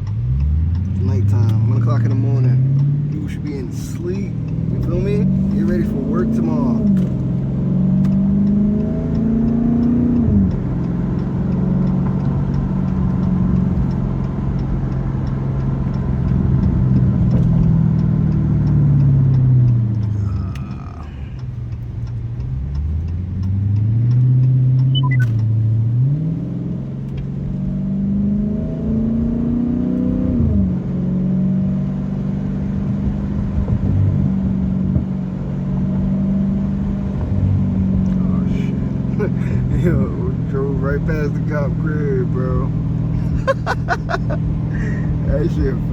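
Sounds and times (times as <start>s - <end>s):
car exhaust revving with upshifts: 0.0s - 45.9s.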